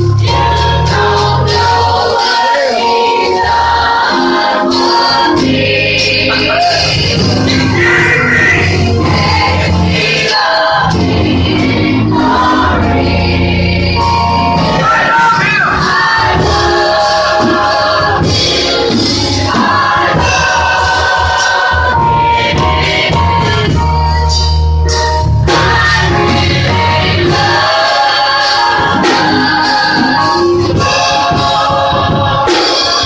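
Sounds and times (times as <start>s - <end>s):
gospel choir with instruments: 0.0s - 33.0s
steady bass line: 0.0s - 33.0s.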